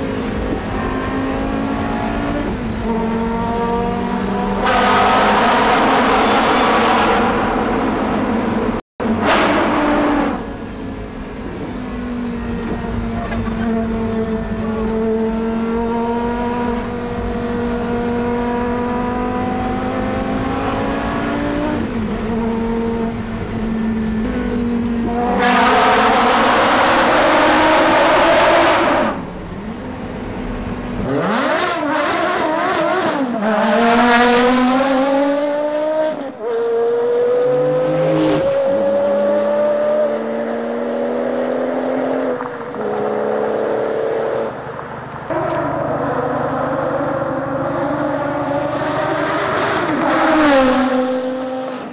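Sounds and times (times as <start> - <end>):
sports car engine revving: 0.0 - 51.9.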